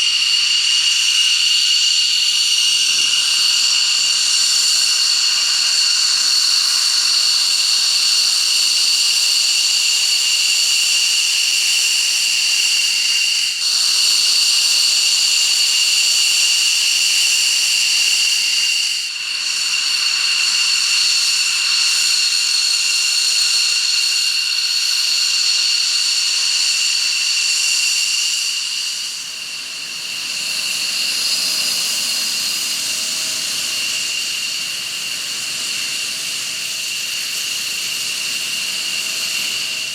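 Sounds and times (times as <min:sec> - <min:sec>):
jet engine high-pitched whine: 0:00.0 - 0:39.9.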